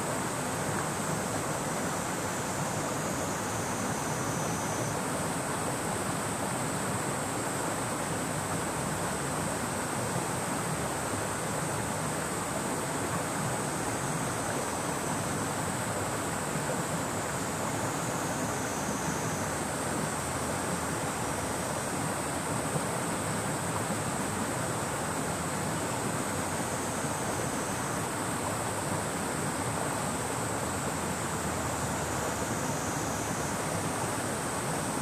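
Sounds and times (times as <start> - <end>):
cicadas droning: 0.0 - 35.0
river water rushing: 0.0 - 35.0.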